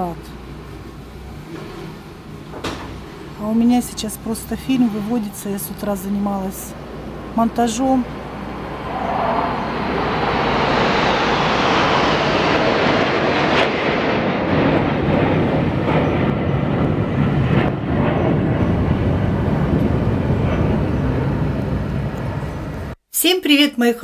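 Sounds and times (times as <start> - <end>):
military aircraft roar: 0.0 - 23.0.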